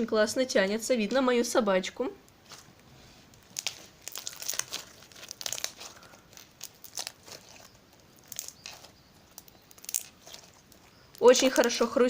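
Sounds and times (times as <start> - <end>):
slime crunching crackles: 2.3 - 12.0.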